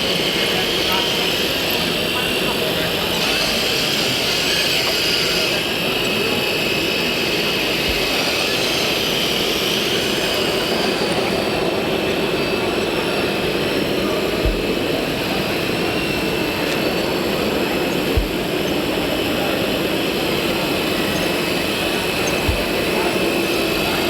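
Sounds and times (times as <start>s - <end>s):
electric motors whining: 0.0s - 24.0s
noisy background: 0.0s - 24.0s.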